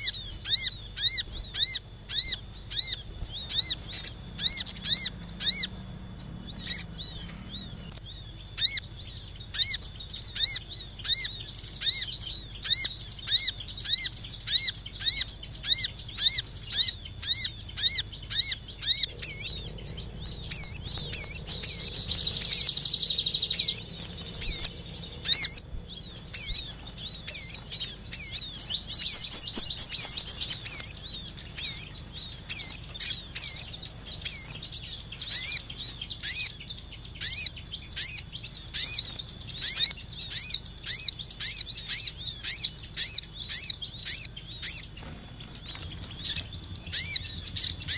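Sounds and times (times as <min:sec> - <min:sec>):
birds twittering: 0:00.0 - 0:47.9
small songbirds chirping: 0:00.0 - 0:47.9.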